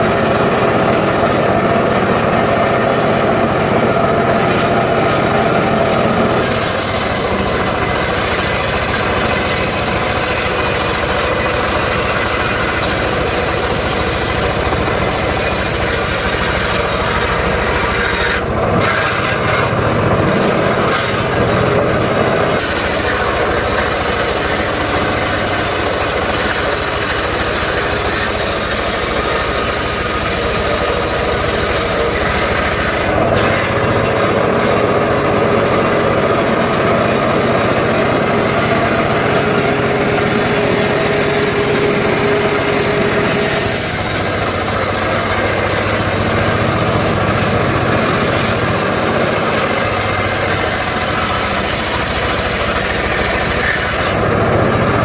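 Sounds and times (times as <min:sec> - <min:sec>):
engine-driven wood saw running: 0:00.0 - 0:55.0.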